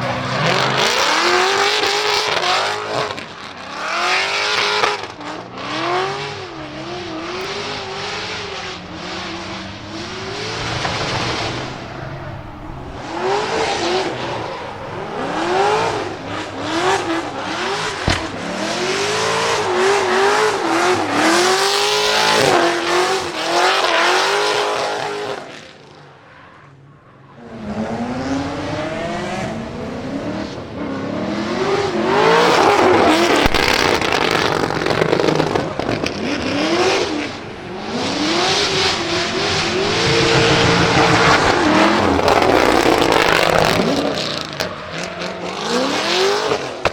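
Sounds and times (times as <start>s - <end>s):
engine revving: 0.0s - 25.6s, 27.4s - 46.9s.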